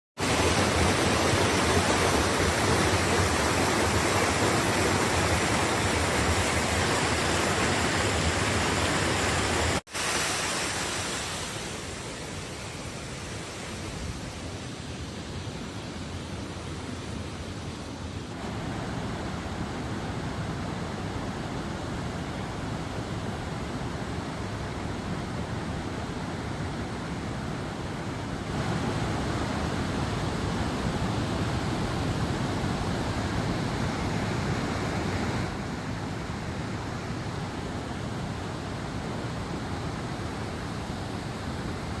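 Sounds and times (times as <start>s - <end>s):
waterfall rushing: 0.2s - 42.0s.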